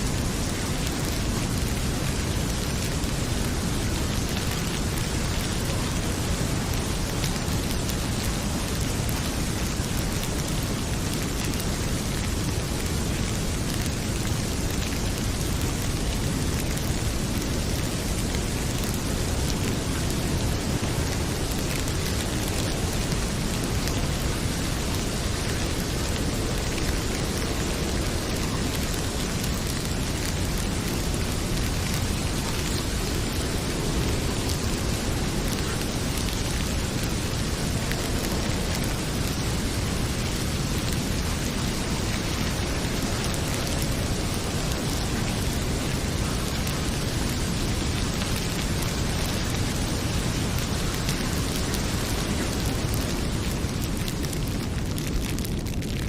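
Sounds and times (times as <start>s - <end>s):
heavy rain pouring: 0.0s - 56.0s
wood fire crackling: 0.0s - 56.0s.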